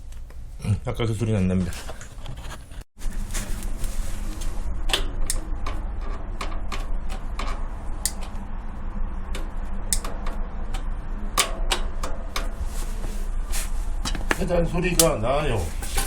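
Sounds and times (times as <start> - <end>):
steady low rumble: 3.0 - 16.0.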